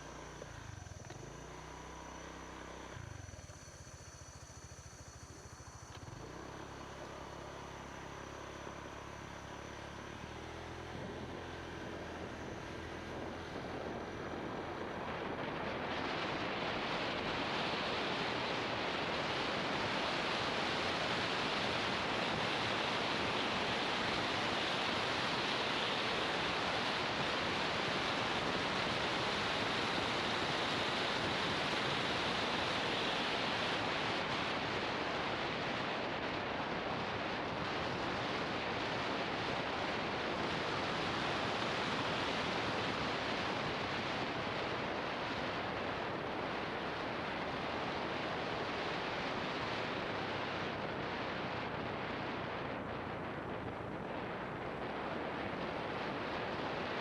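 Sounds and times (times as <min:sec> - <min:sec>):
faint engine hum: 0:00.0 - 0:57.0.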